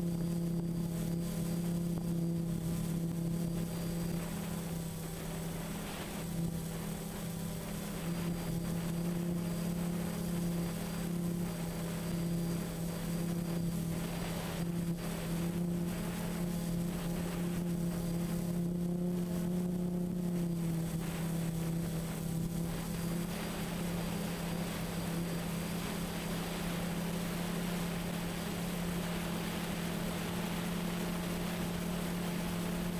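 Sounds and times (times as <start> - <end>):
quadcopter motors humming: 0.0 - 32.9.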